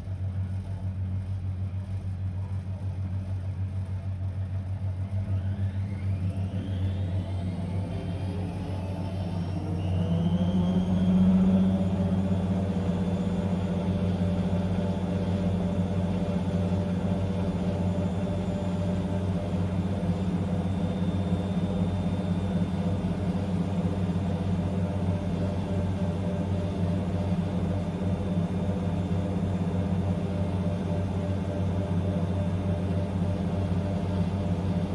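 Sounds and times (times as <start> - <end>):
washing machine spinning: 5.5 - 34.9.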